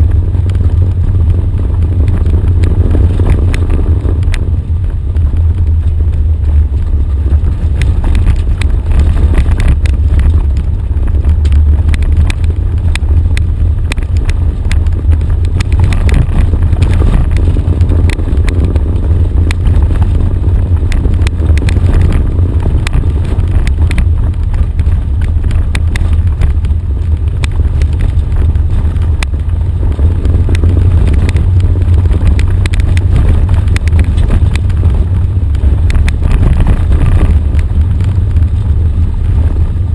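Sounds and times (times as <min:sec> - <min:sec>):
engine and tyres rumbling: 0:00.0 - 0:39.9
gravel and body rattles: 0:00.0 - 0:39.9.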